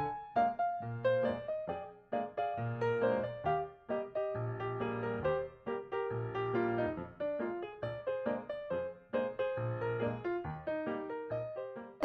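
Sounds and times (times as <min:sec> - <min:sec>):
light piano tune: 0:00.0 - 0:12.0.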